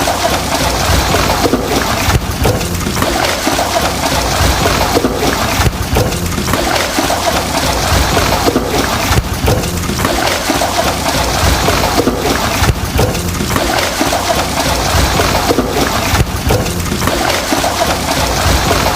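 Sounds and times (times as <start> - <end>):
water sloshing in washing machine drum: 0.0 - 18.9.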